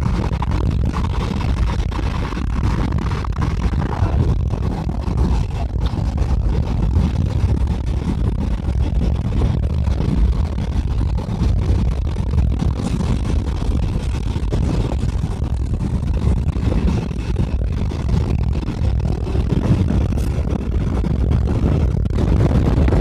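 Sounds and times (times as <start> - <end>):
road rumble: 0.0 - 23.0
wind buffeting in car cabin: 0.0 - 23.0.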